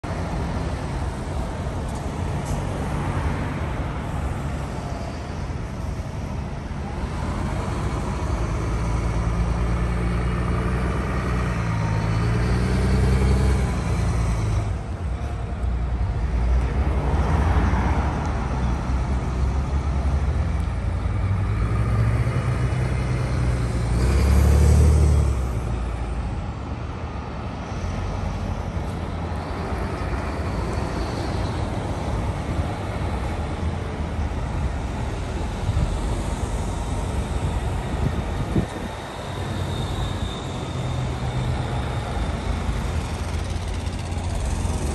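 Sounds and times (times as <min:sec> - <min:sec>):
coaches and cars driving past: 0:00.0 - 0:44.9.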